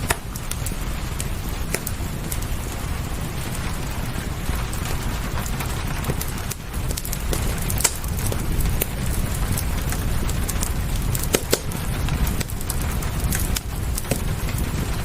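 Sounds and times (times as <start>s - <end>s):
rain hissing: 0.0s - 15.0s
wood fire crackling and popping: 0.0s - 15.0s.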